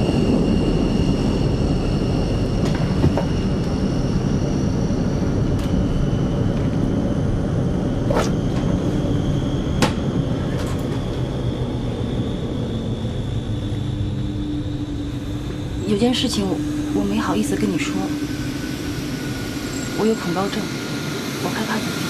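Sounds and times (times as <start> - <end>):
aircraft engines rumbling with whine: 0.0 - 22.0.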